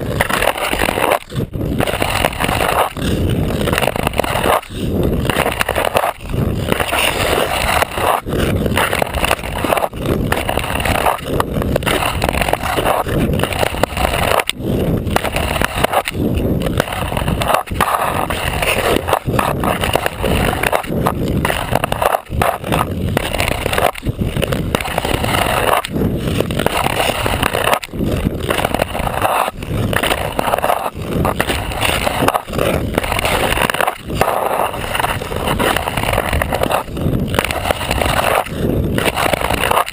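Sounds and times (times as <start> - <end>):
ice skate blade scraping ice: 0.0 - 39.9.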